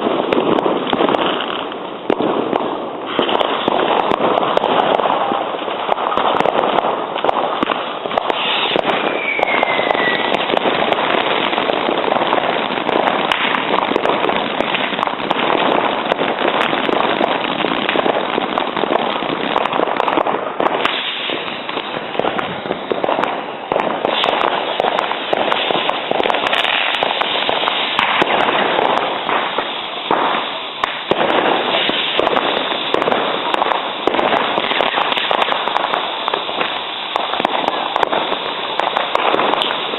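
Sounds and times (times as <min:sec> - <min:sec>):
fireworks crackling and banging: 0:00.0 - 0:39.9
falling firework whistle: 0:03.0 - 0:15.8, 0:18.8 - 0:39.9.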